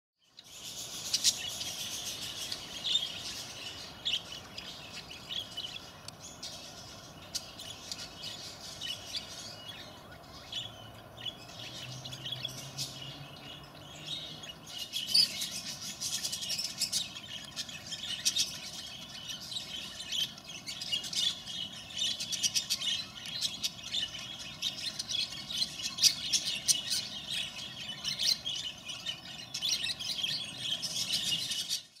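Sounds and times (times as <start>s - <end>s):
small birds chirping: 0.2s - 32.0s.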